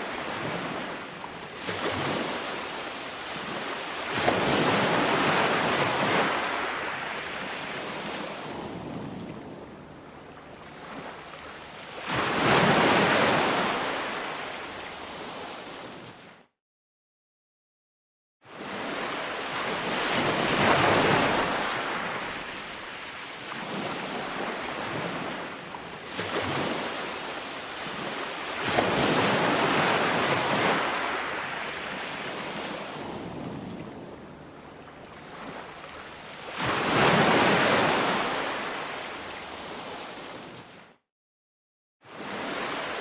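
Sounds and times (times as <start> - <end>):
ocean waves breaking on shore: 0.0 - 16.5, 18.4 - 41.0, 42.0 - 43.0.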